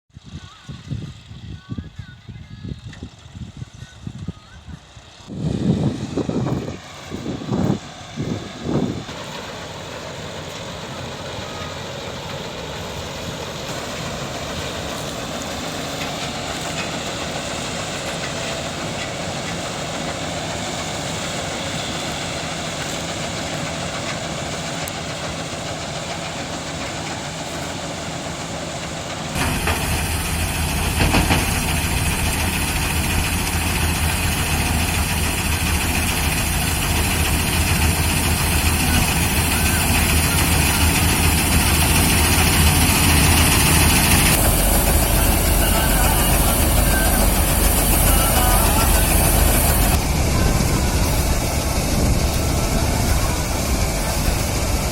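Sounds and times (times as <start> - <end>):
harvesting machine engine running: 0.1 - 54.9.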